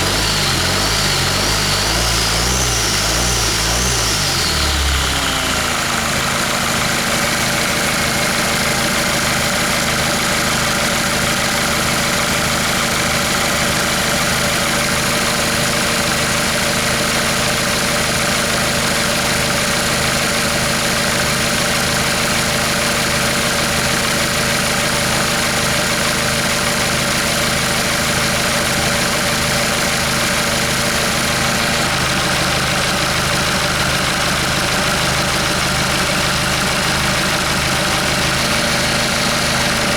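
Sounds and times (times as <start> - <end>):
diesel engine idling: 0.0 - 22.8, 23.4 - 39.9.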